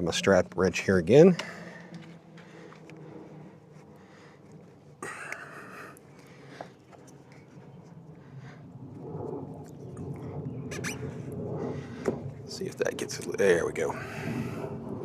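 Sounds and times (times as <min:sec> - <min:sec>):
low rumbling handling noise: 0:00.0 - 0:15.0.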